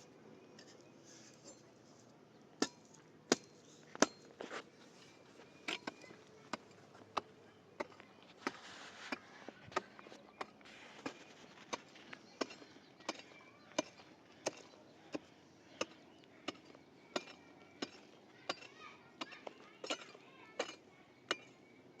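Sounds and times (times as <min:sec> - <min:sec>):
hand tool striking: 0:02.6 - 0:21.6.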